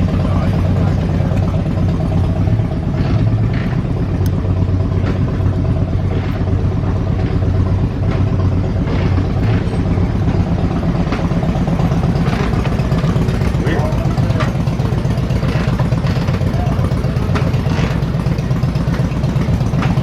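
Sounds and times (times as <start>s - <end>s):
engine running steadily: 0.0s - 20.0s
faint clatter: 0.1s - 20.0s.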